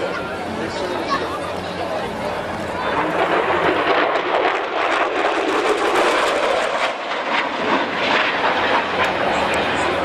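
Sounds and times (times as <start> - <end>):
fighter jet roaring past: 0.0 - 10.0.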